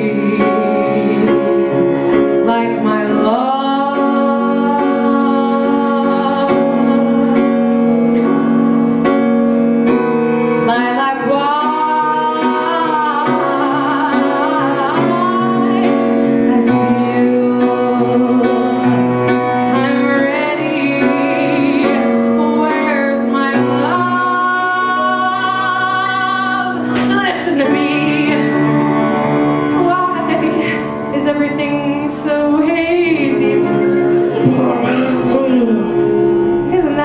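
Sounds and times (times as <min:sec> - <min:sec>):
woman singing slow ballad: 0:00.0 - 0:08.5, 0:10.6 - 0:37.0
instrumental accompaniment: 0:00.0 - 0:37.0.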